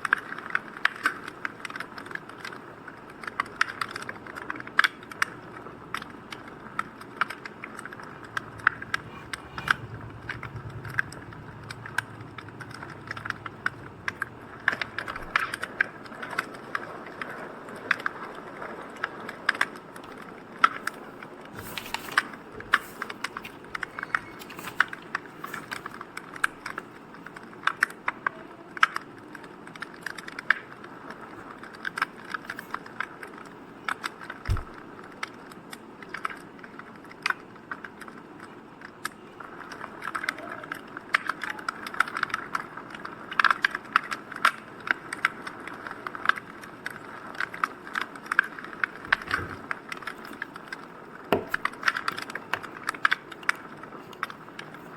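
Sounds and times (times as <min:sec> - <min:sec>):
fire crackling and popping: 0:00.0 - 0:54.9.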